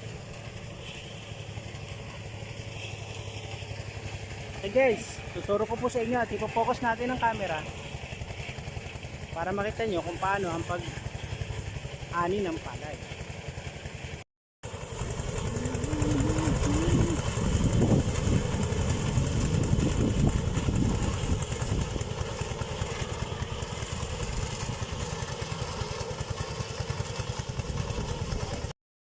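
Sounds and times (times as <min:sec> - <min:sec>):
small engine driving a thresher: 0:00.0 - 0:28.7.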